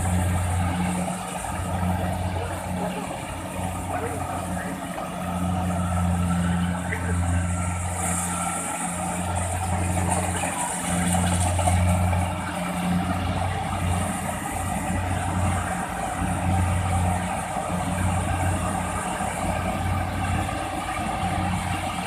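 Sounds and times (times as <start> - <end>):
harvester engine drone: 0.0 - 22.0
machine working noise: 0.0 - 22.0.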